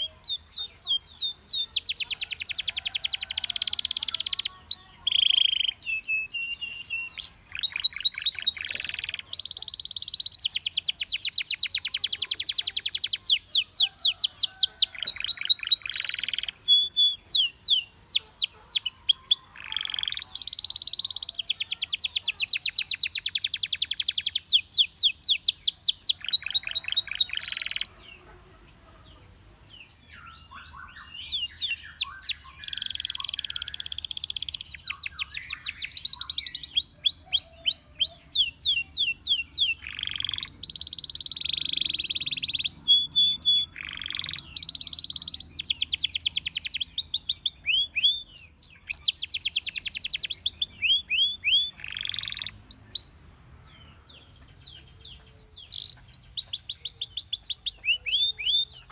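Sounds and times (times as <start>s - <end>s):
canary singing trills: 0.0s - 58.9s
soft bird chirps: 0.0s - 58.9s.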